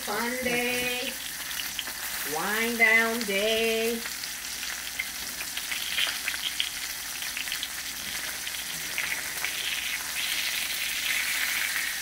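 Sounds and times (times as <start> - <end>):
sprouts sizzling in oil: 0.2 - 12.0.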